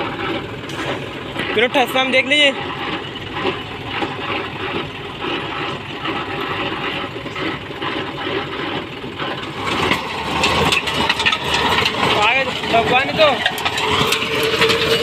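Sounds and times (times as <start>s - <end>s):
rotavator blades churning soil: 0.0s - 15.0s
tractor engine under load: 0.0s - 15.0s.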